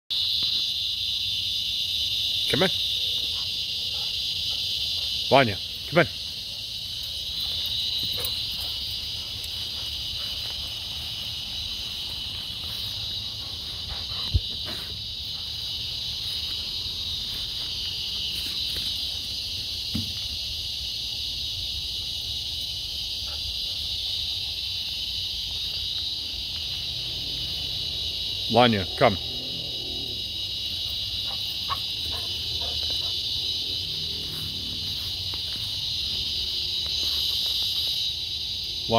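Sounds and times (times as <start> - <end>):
insect chorus buzzing: 0.0 - 38.9.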